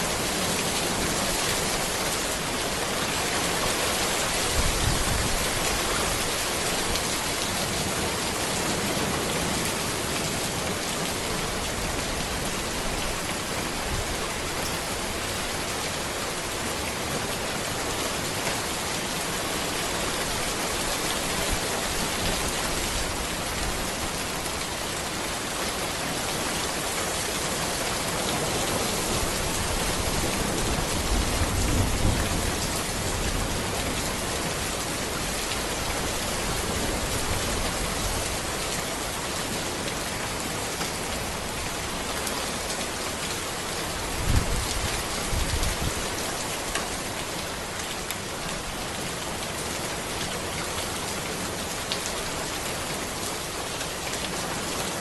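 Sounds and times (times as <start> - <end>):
rain falling on a road: 0.0 - 55.0.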